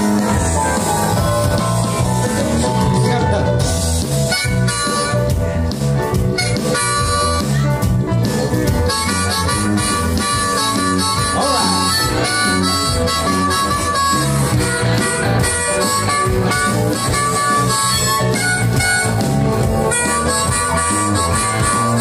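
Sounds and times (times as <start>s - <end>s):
harmonica melody: 0.0s - 22.0s
live band with guitars and keyboard: 0.0s - 22.0s.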